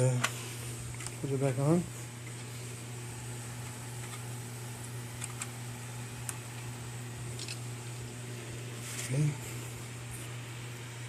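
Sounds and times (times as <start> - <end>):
computer fans humming: 0.0 - 11.0.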